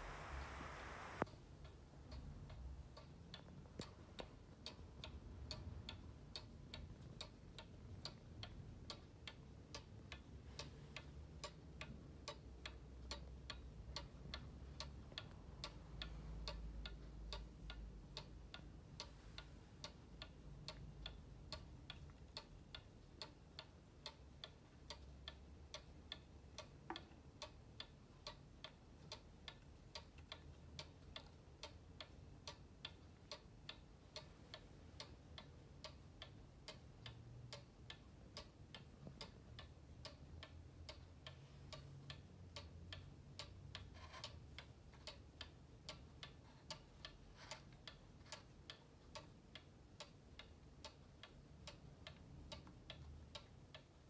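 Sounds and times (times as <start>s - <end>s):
cuckoo clock ticking: 0.0s - 54.0s.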